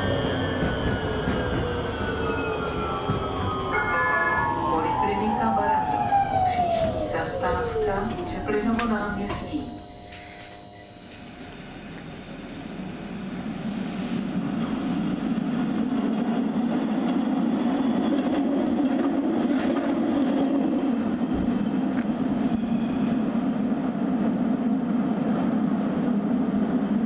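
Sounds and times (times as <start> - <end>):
tram rolling rumble: 0.0 - 27.0.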